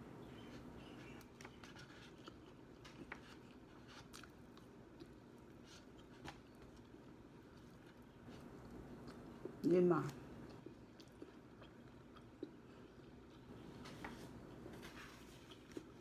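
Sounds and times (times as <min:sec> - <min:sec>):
chewing fried chicken: 0:00.4 - 0:16.0.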